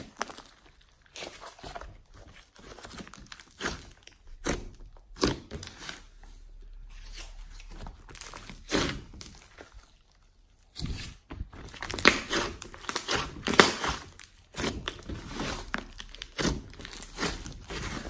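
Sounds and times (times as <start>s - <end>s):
slime crackling and crunching: 0.0s - 18.0s.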